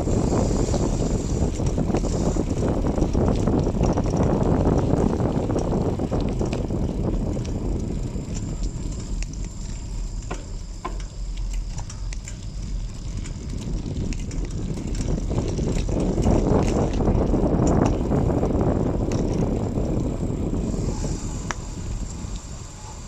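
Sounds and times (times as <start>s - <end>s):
bicycle ticks and rattles: 0.0s - 23.0s
wind rumbling on microphone: 0.0s - 23.0s.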